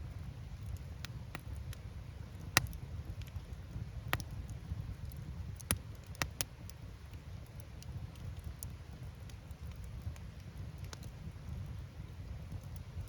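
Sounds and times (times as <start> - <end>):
low rumble of flames: 0.0 - 13.0
logs crackling and popping: 0.1 - 13.0.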